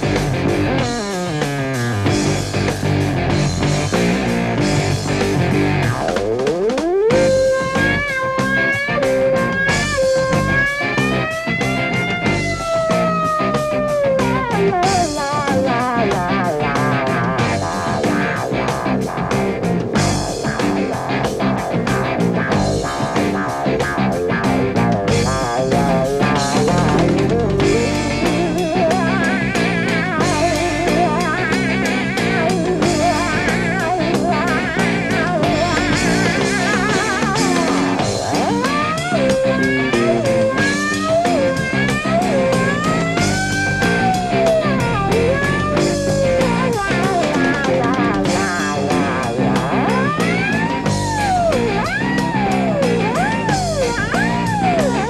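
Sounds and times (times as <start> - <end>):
electric guitar lead line: 0.0 - 55.0
hard rock band playing: 0.0 - 55.0.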